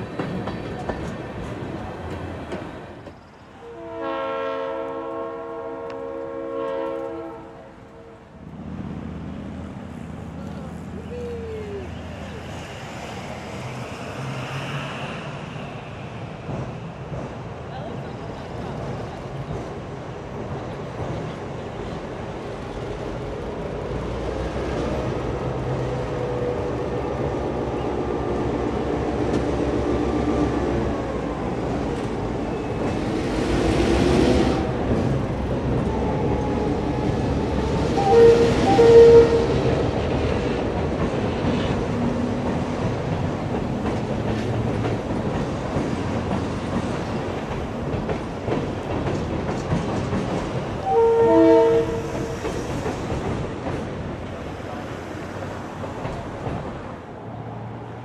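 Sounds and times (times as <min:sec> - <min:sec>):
diesel locomotive engine: 0:00.0 - 0:58.0
rail cars rumbling and clattering: 0:00.0 - 0:58.0.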